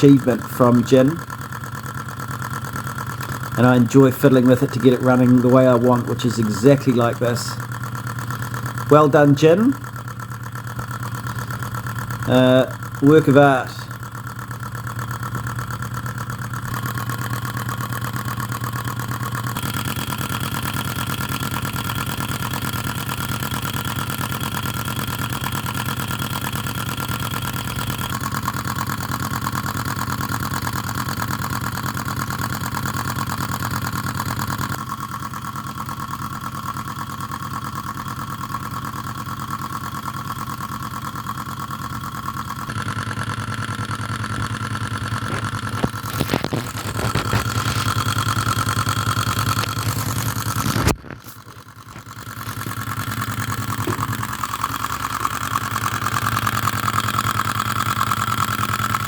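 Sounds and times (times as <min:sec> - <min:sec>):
hot-air engine clattering: 0:00.0 - 0:59.0.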